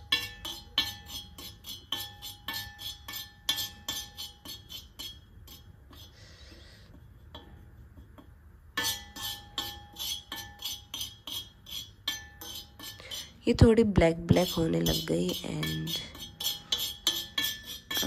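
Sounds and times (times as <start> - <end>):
spoon scraping metal pan: 0.0 - 18.0.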